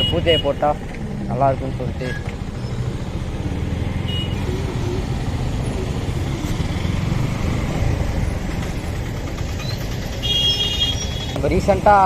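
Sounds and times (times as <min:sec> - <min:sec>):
motorcycle running: 0:00.0 - 0:12.0.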